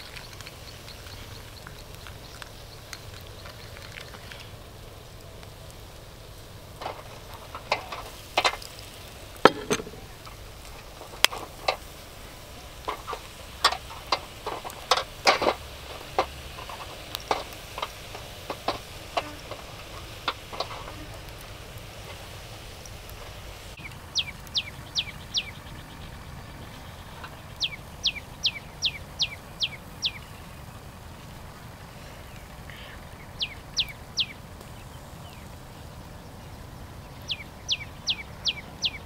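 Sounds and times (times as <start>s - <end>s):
faint steady hiss: 0.0s - 39.0s
sharp clicks and pops on grill: 0.0s - 39.0s.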